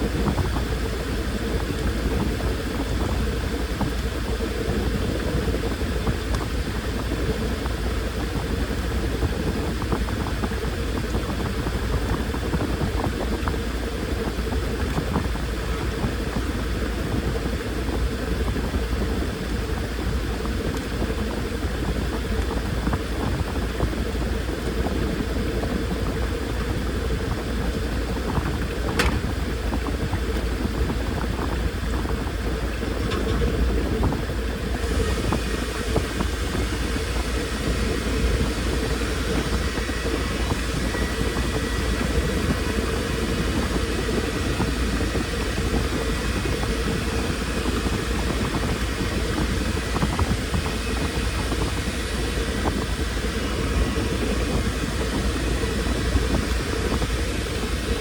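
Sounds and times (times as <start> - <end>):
washing machine motor hum: 0.0 - 58.0.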